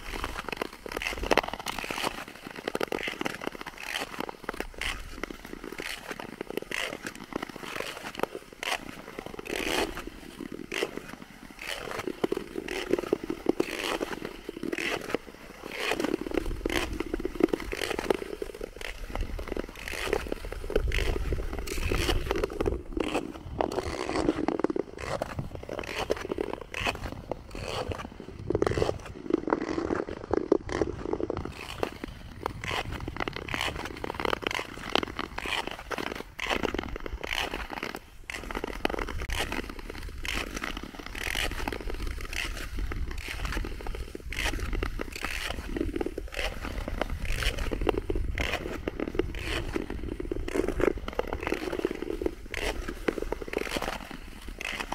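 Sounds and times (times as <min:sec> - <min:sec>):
ice skates scraping on ice: 0:00.0 - 0:54.9.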